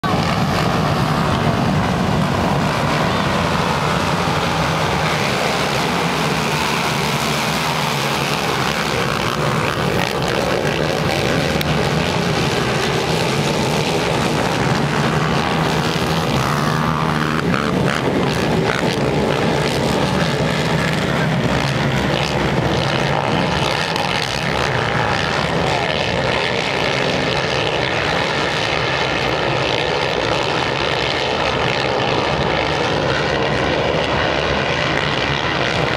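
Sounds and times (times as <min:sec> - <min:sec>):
quad engines revving: 0:00.0 - 0:35.9.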